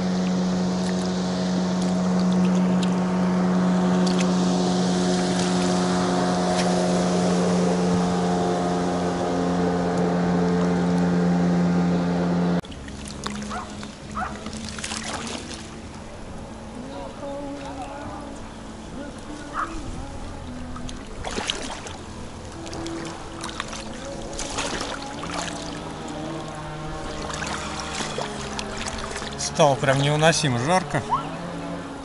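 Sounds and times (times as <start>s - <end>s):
motorboat engine running: 0.0s - 32.0s.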